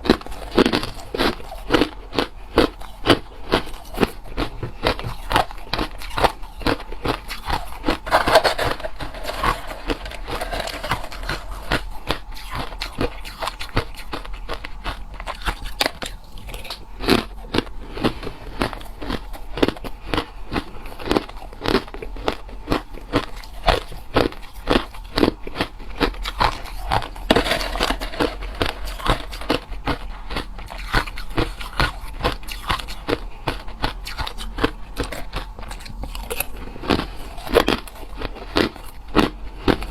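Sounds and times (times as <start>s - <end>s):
person crunching ice: 4.4s - 23.5s, 24.2s - 39.9s.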